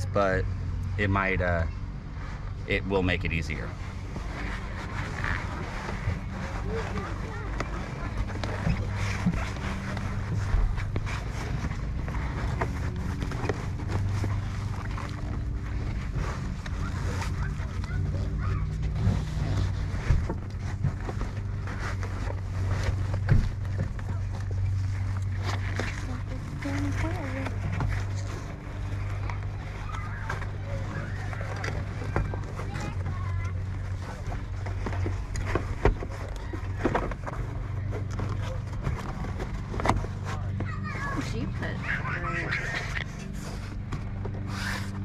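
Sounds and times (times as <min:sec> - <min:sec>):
steady low hum: 0:00.0 - 0:45.0
floor liners rustling and scraping: 0:03.6 - 0:45.0.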